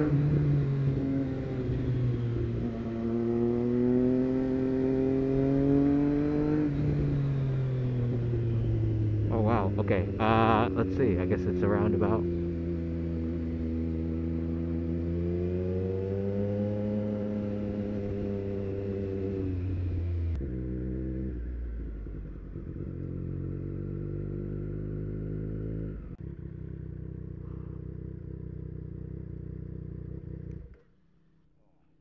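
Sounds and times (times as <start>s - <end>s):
motorcycle engine running: 0.0s - 30.8s.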